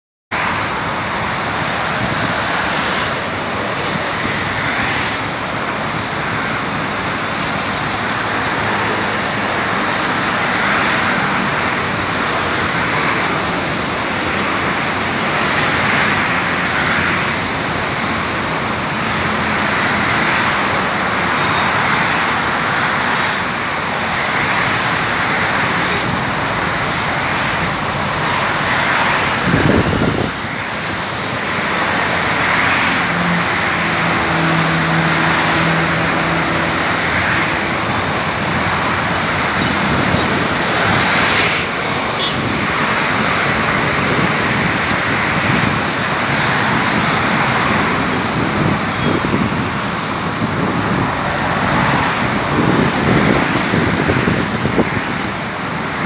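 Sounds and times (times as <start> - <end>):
road traffic passing: 0.3 - 56.0.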